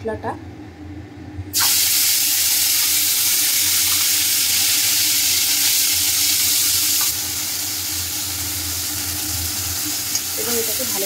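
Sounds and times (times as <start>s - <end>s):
paste sizzling in hot oil: 1.5s - 11.0s.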